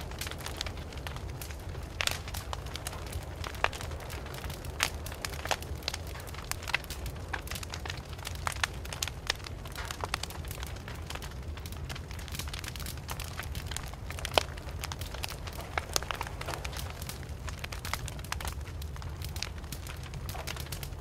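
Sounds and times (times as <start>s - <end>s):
low fire rumble: 0.0s - 21.0s
wood fire crackling and popping: 0.0s - 21.0s.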